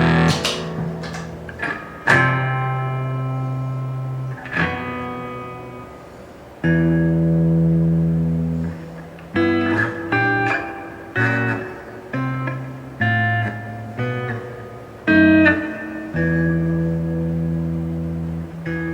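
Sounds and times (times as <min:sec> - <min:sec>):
electric guitar chords with reverb: 0:00.0 - 0:18.9.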